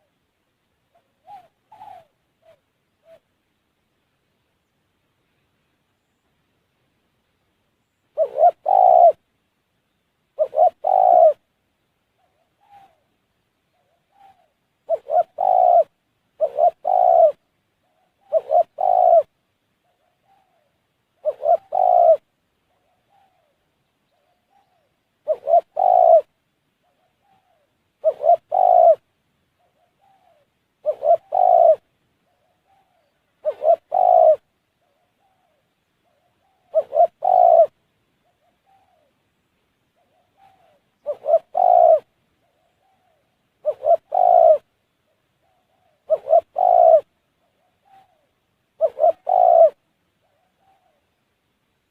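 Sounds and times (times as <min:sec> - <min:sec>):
dove cooing: 0:00.9 - 0:03.3, 0:08.1 - 0:09.2, 0:10.4 - 0:11.5, 0:12.2 - 0:39.2, 0:39.9 - 0:51.1.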